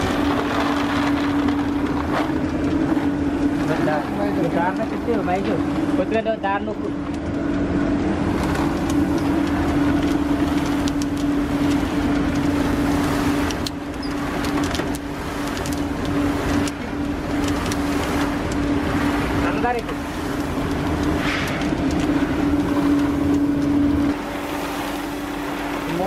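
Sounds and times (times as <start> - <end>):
roasting machine humming: 0.0 - 26.0.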